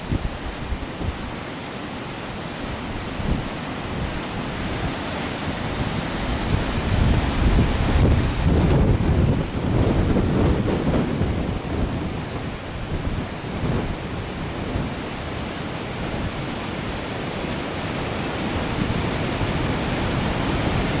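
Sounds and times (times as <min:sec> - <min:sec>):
rushing floodwater: 0:00.0 - 0:21.0.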